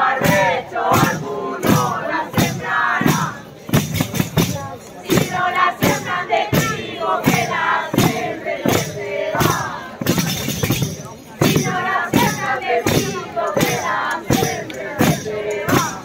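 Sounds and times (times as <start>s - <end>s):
frame drums beating: 0.0s - 16.0s
group singing and chanting: 0.0s - 16.0s.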